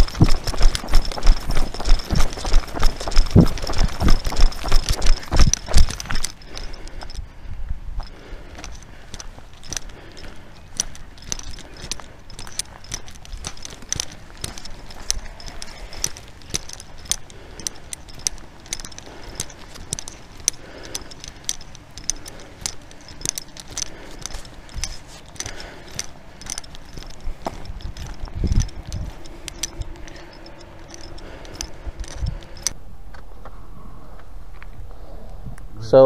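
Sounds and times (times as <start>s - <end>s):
gear jingling: 0.0s - 32.8s
footsteps on asphalt: 0.0s - 33.6s.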